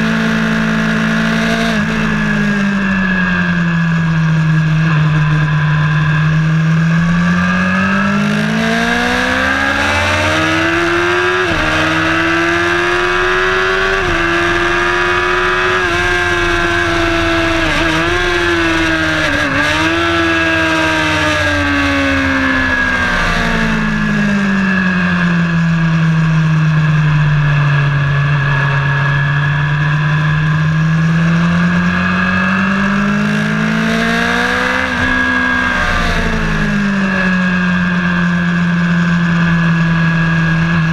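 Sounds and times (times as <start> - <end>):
race car engine revving: 0.0 - 40.9
road and wind noise: 0.0 - 40.9.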